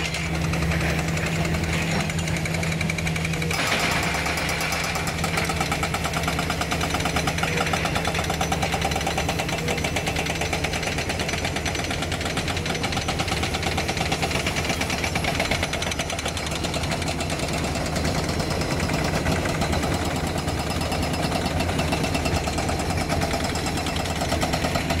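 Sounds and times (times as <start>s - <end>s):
hydraulic rock breaker hammering: 0.0s - 25.0s.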